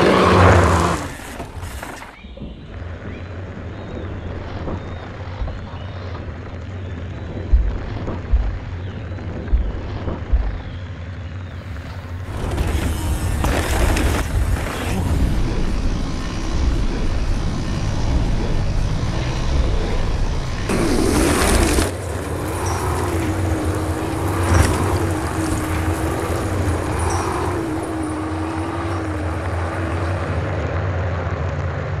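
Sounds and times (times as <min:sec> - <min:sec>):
off-road vehicle engine running hard: 0:00.0 - 0:32.0.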